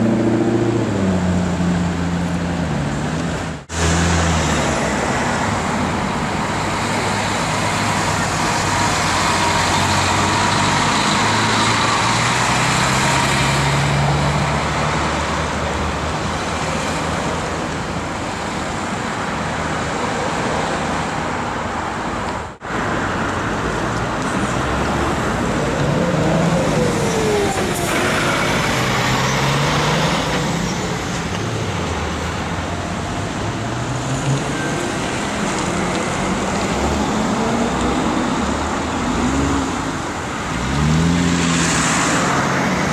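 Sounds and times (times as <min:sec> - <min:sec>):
cars driving past on wet road: 0:00.0 - 0:42.9.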